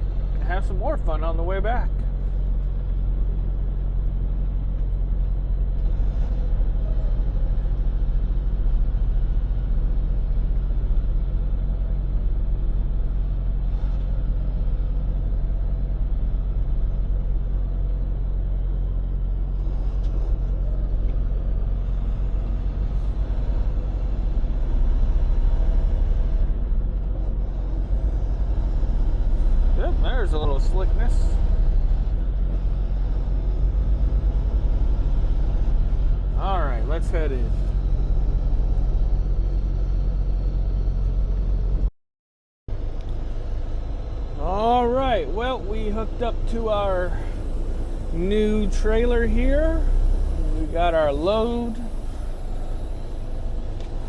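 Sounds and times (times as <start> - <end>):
diesel truck engine drone: 0.0 - 41.9, 42.7 - 54.0.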